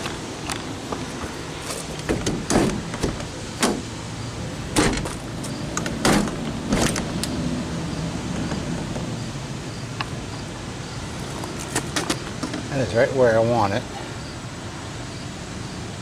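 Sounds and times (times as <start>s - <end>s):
knocks and clunks of trim: 0.0s - 13.0s.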